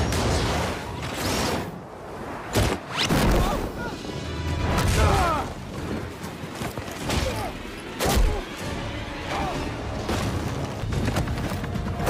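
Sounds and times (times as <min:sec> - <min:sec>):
orchestral film score: 0:00.0 - 0:12.0.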